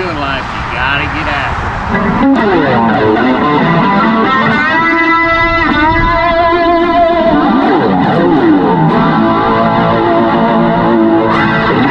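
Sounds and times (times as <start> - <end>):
electric guitar lead line: 0.0 - 11.9.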